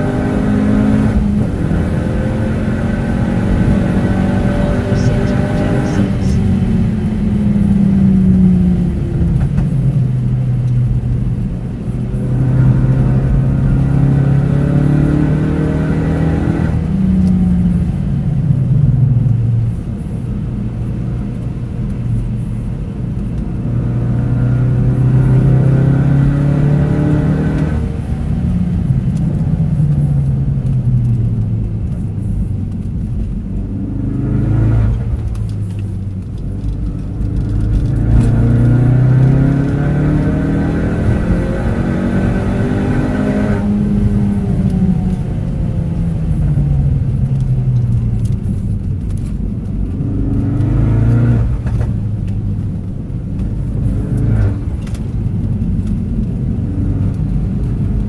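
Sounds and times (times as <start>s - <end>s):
car engine revving: 0.0s - 20.2s, 23.1s - 58.0s.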